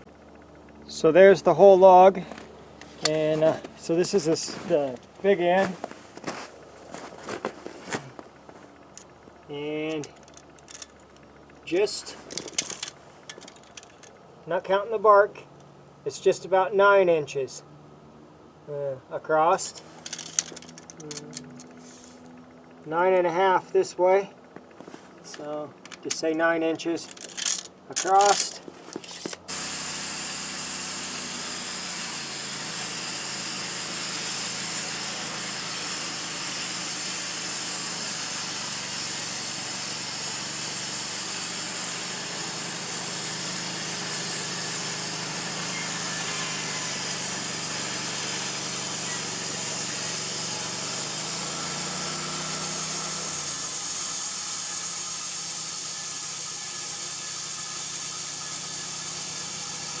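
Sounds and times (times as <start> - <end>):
sawmill engine running: 0.0 - 16.5, 19.4 - 60.0.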